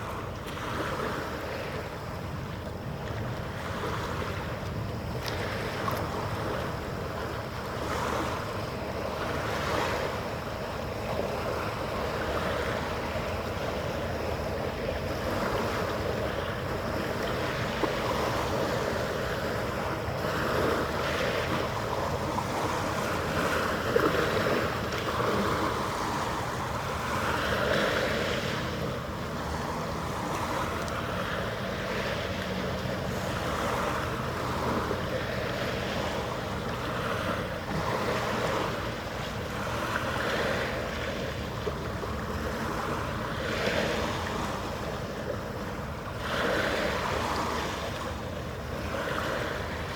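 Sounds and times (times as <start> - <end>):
faint steady hum: 0.0 - 49.9
wind and water noise: 0.0 - 49.9.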